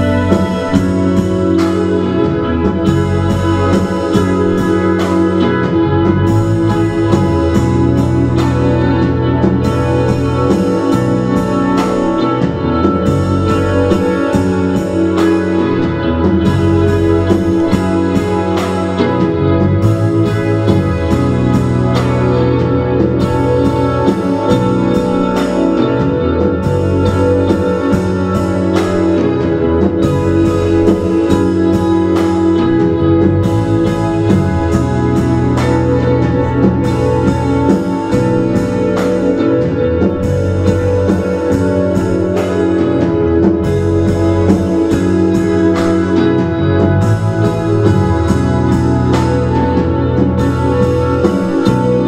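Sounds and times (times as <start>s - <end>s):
bass: 0.0s - 52.0s
drum kit beat: 0.0s - 52.0s
electric guitars: 0.0s - 52.0s
keyboard: 0.0s - 52.0s.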